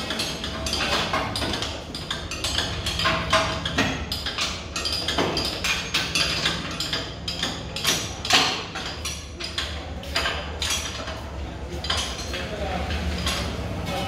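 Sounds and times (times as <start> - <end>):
hand tools clinking on metal: 0.0 - 14.0.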